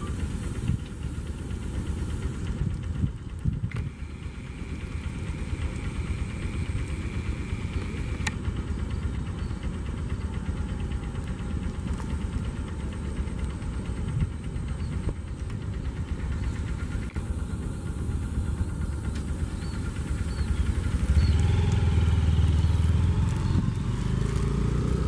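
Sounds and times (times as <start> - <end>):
thin steady whine: 0.0 - 22.3
train wheels rumbling on rails: 0.0 - 25.0.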